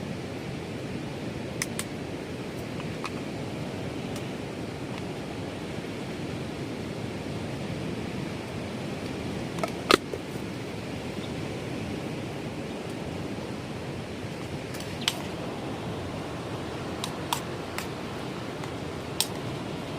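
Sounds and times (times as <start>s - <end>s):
strong wind rushing: 2.1s - 19.9s.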